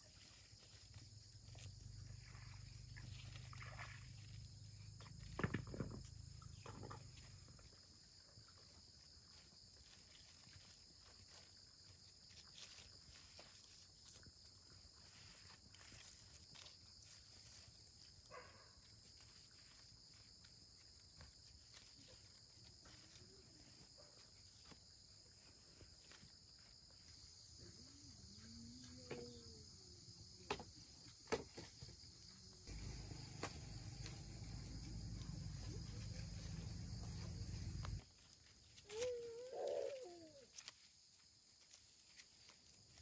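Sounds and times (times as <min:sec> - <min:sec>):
insect chorus: 0:00.0 - 0:43.0.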